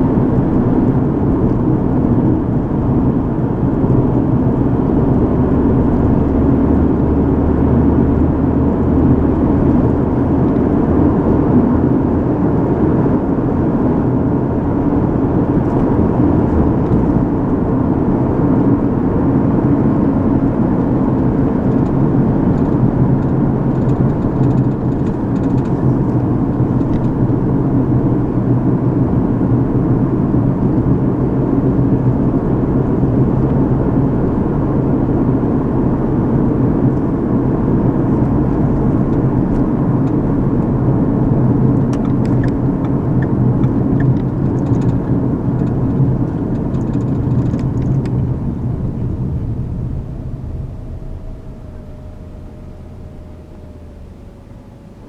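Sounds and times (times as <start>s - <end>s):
car driving heard from inside: 0.0s - 55.0s.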